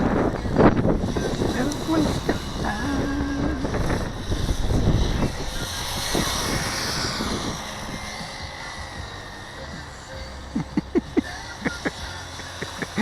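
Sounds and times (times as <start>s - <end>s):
low rumble: 0.0s - 13.0s
rc car motors whining: 0.0s - 13.0s.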